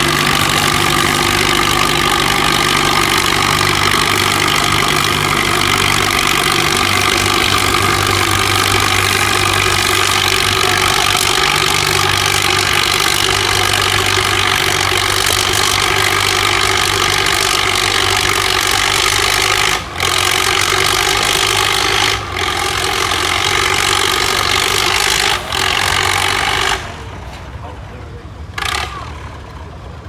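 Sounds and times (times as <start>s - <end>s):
tractor engine running hard: 0.0s - 30.0s.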